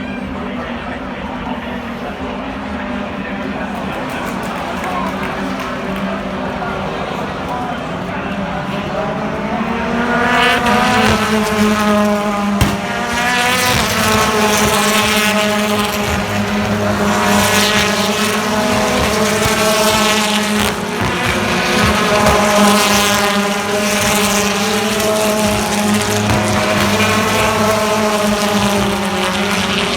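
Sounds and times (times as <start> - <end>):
racing car engine: 0.0 - 29.9.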